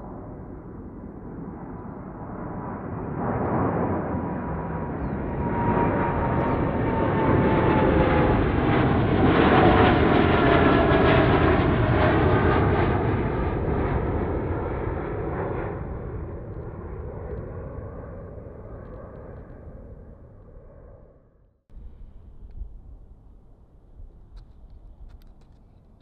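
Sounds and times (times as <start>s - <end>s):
jet aircraft passing overhead: 0.0s - 26.0s
jet engine whine: 0.0s - 26.0s.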